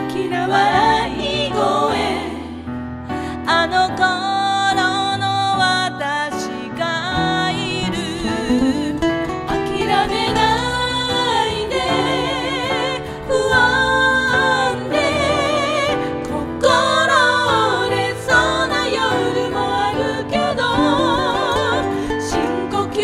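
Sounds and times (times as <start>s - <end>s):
acoustic guitar: 0.0s - 23.0s
piano: 0.0s - 23.0s
woman singing with vibrato: 3.5s - 23.0s.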